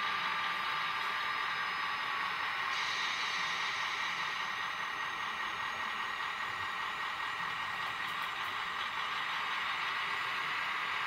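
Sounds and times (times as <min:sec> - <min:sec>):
diesel engine idling through small speaker: 0:00.0 - 0:11.0.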